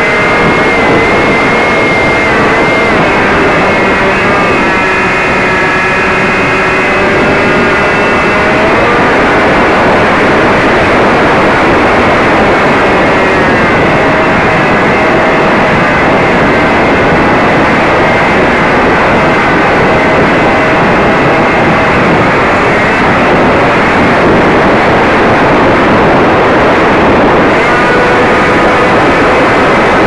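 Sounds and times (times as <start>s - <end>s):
faint motor whine: 0.0s - 30.0s
wind and propeller rush: 0.0s - 30.0s.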